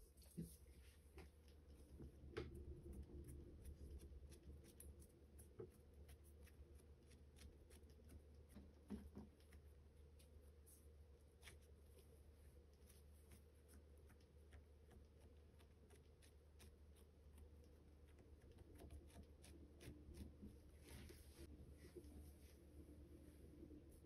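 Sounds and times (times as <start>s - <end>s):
soft ticks and rustles: 0.0s - 22.5s
steady low hum: 0.0s - 24.0s.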